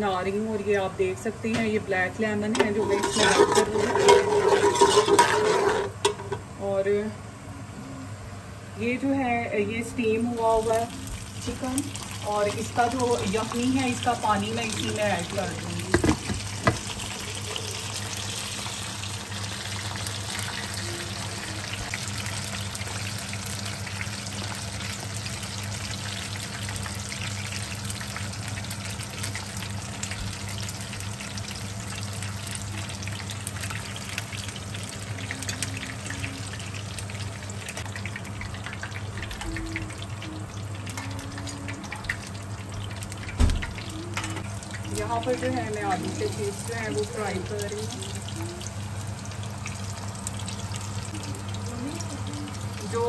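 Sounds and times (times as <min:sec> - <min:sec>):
deep-frying sizzle and crackle: 0:00.0 - 0:07.2, 0:08.6 - 0:53.0.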